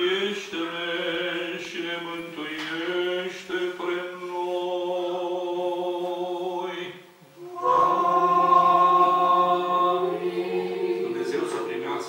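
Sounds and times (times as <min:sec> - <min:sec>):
choir chanting unaccompanied: 0:00.0 - 0:12.0.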